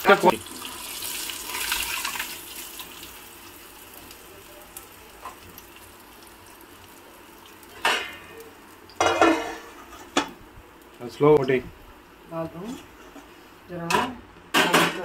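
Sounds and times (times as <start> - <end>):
fish sizzling in hot oil: 0.0 - 13.7.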